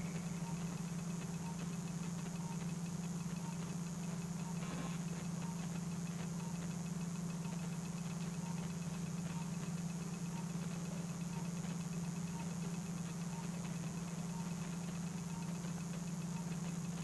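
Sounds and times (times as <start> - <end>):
faint blips: 0.0 - 17.0
low motor hum: 0.0 - 17.0.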